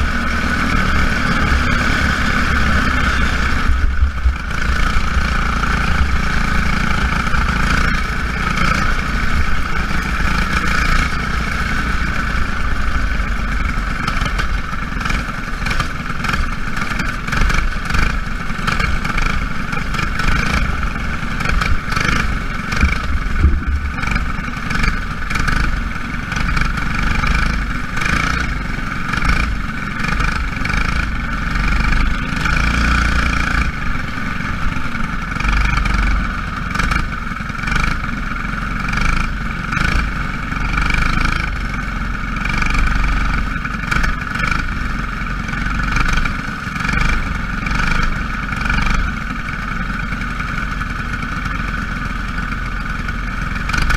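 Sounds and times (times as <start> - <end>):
race car engines droning: 0.0 - 49.7.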